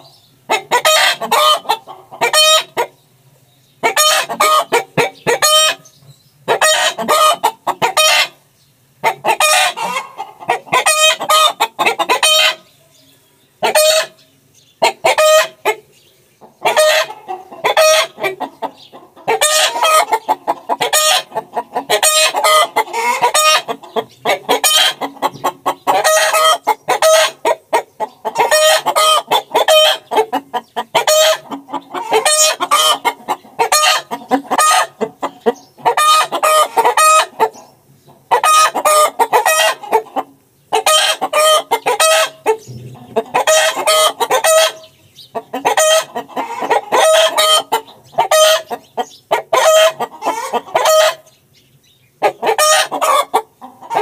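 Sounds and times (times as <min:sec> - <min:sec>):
hens clucking and cackling: 0:00.0 - 0:54.0.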